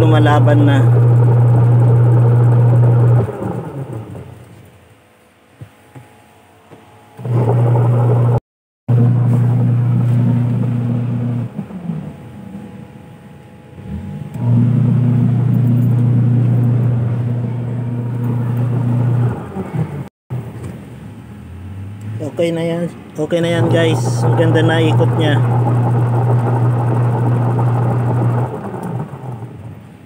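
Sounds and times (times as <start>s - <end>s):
washing machine motor humming: 0.0s - 4.8s, 7.1s - 20.1s, 23.2s - 30.0s.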